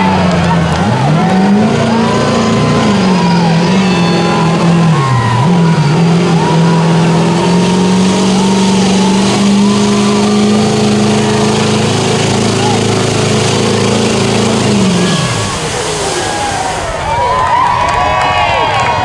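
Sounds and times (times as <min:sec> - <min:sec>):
truck engine revving: 0:00.0 - 0:17.1.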